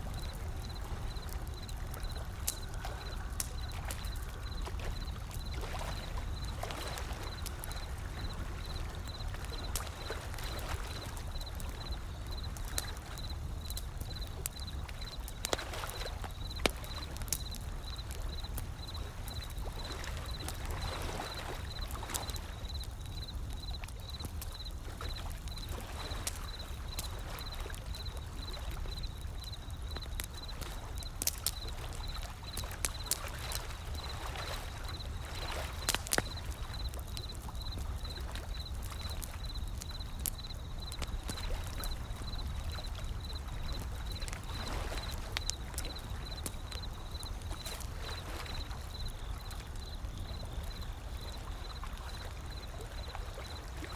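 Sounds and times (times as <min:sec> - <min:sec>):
wood fire crackling: 0:00.0 - 0:52.6.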